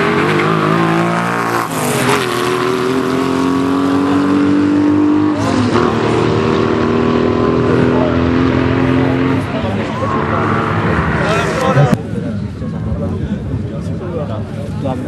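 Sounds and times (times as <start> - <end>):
race car accelerating: 0.0 - 12.9.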